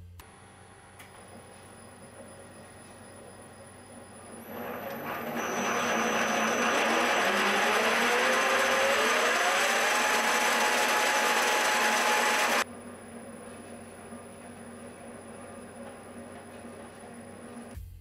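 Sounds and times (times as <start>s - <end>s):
spindle whirring: 1.0s - 17.8s
rising whine: 1.3s - 17.8s.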